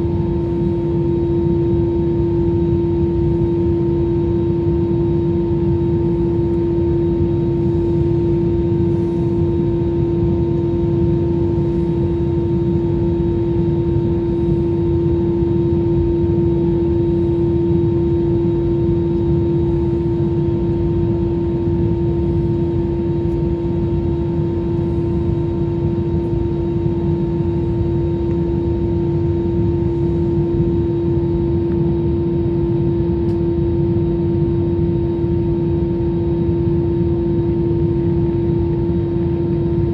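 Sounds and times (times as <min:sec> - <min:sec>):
jet engine hum: 0:00.0 - 0:39.9.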